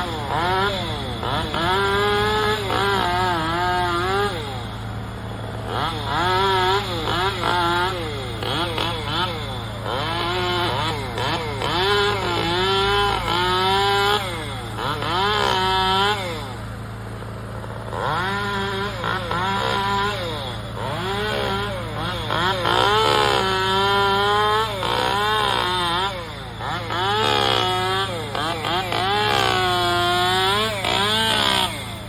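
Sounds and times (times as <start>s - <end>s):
chainsaw revving and idling: 0.0s - 32.0s.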